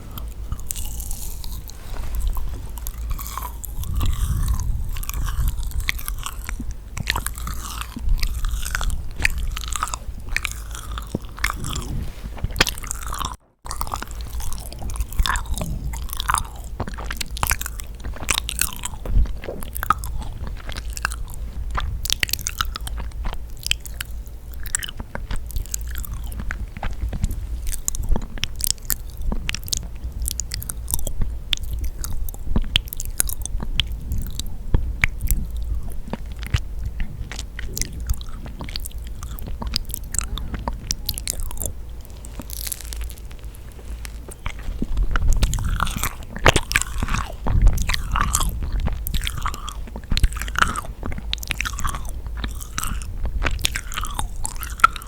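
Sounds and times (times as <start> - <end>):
sticky chewing mouth clicks: 0.0 - 55.0.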